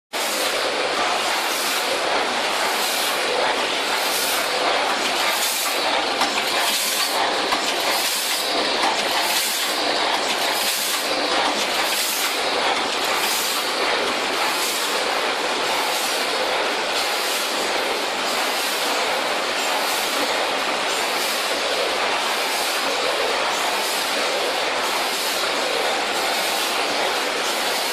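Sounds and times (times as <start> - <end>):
packing machine clatter: 0.3 - 27.9.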